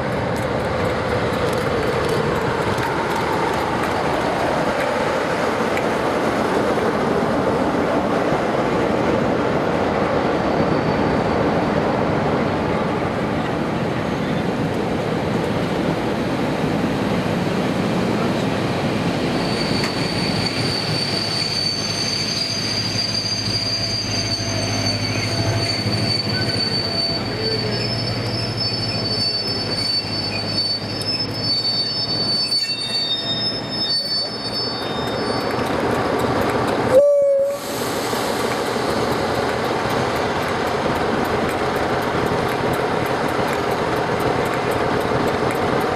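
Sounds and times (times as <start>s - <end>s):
train coaches rolling on rails: 0.0s - 45.9s
squealing wheels and brakes: 0.3s - 8.9s, 9.8s - 12.2s, 18.2s - 45.9s.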